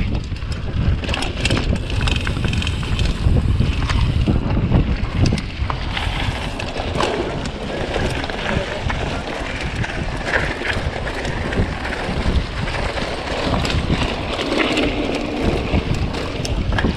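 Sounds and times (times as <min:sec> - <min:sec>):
bike clicks and rattles: 0:00.0 - 0:16.9
wind buffeting microphone: 0:00.0 - 0:16.9.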